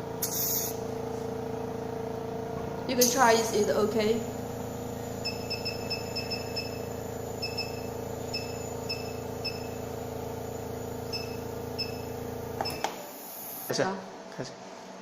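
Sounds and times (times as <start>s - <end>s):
vacuum pump humming: 0.0s - 13.8s.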